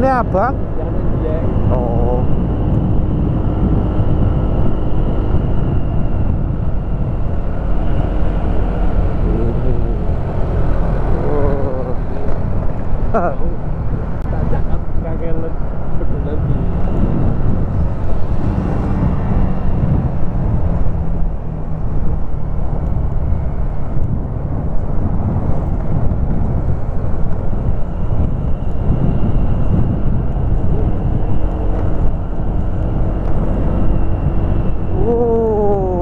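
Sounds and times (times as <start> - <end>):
motorcycle engine drone: 0.0 - 36.0.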